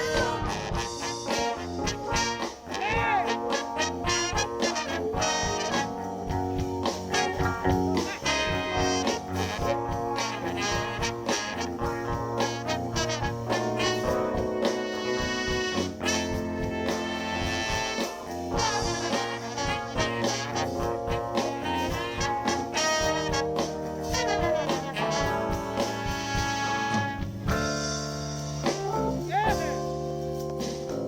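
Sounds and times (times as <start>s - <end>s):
live band horn section: 0.0s - 31.0s.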